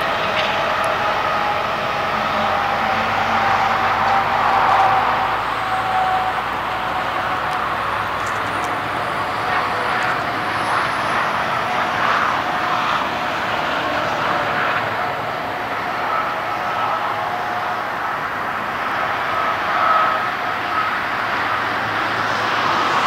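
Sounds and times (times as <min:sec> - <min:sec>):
engine whine: 0:00.0 - 0:23.0
turboprop engines running: 0:00.0 - 0:23.0.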